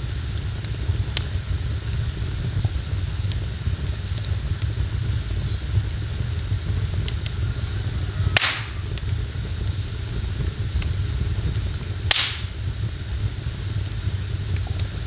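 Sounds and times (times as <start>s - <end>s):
loud pops of burning wood: 0.0s - 15.0s
steady low rumble: 0.0s - 15.0s
wood fire crackling: 0.0s - 15.0s.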